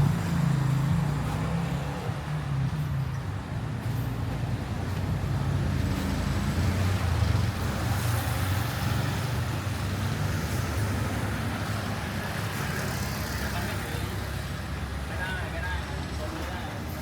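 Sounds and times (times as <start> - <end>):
street noise: 0.0 - 17.0
vehicle engines rumbling: 0.0 - 17.0.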